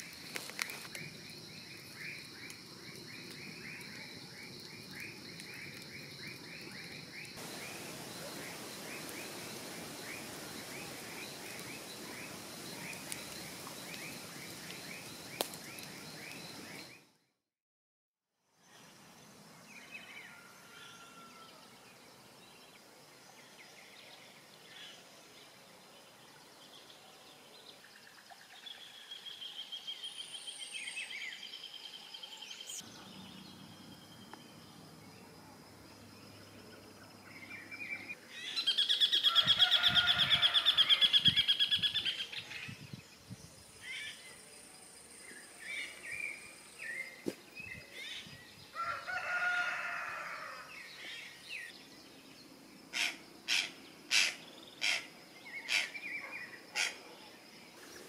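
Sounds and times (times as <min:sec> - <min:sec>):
wild birds calling and singing: 0:00.0 - 0:17.1, 0:19.6 - 0:58.0.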